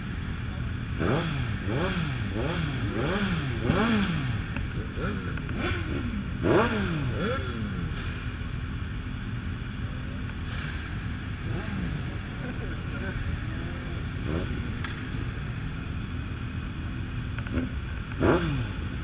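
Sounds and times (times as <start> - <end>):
motorcycle engines idling: 0.0 - 19.0.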